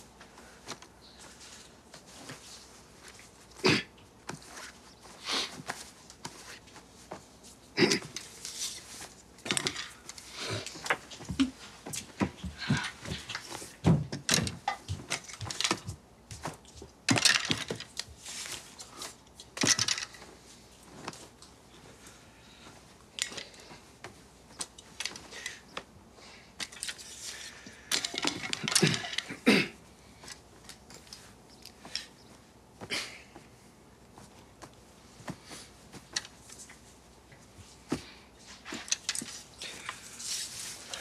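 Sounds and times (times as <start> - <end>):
fabric rustling: 0.0 - 13.9, 14.6 - 26.0, 29.8 - 41.0.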